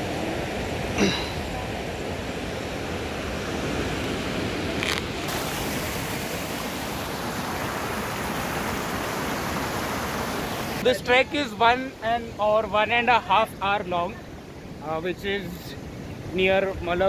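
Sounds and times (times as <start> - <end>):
rocky stream rushing: 0.0 - 17.0.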